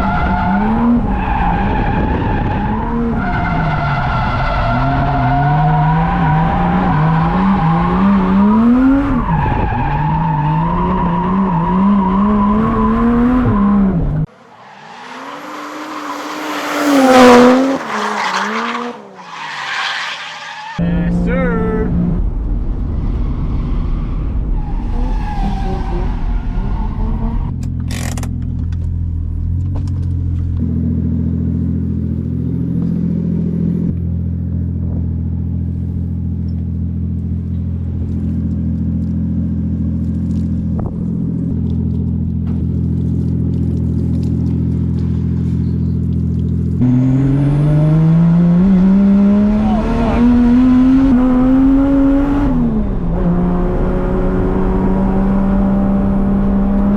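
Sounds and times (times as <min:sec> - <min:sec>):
car engine accelerating: 0:00.0 - 0:19.6, 0:20.8 - 0:56.9.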